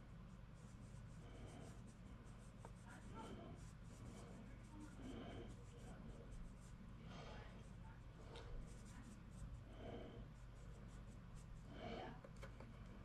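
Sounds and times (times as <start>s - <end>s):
sponge rubbing on paper: 0.0s - 11.9s
low steady hum: 0.0s - 13.0s.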